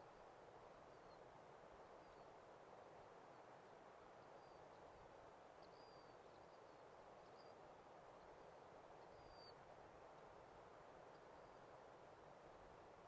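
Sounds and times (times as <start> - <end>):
faint open-air hiss: 0.0 - 13.0.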